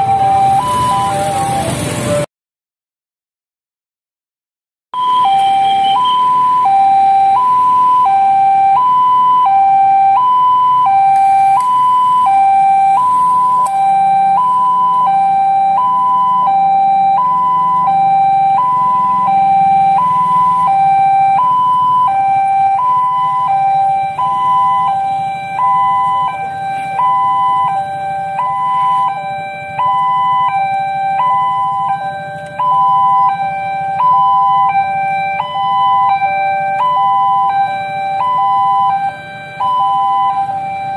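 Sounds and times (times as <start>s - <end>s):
second lower-toned alarm: 0.0s - 2.0s, 5.0s - 40.9s
level crossing alarm two-tone: 0.0s - 2.2s, 5.0s - 40.9s.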